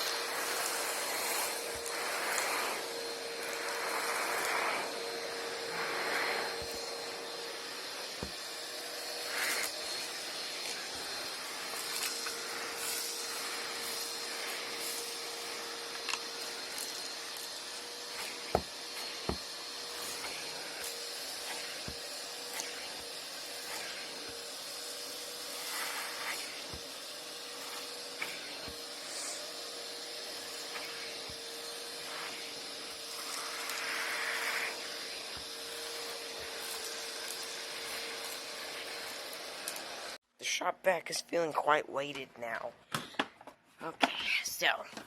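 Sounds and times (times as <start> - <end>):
shop vac running: 0.0 - 40.2.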